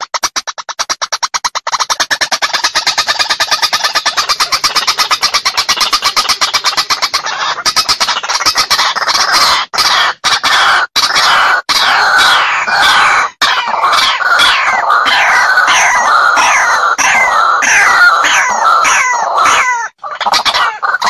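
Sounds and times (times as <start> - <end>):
bird croaking calls: 0.0 - 21.0
waterhen harsh calls: 0.0 - 21.0.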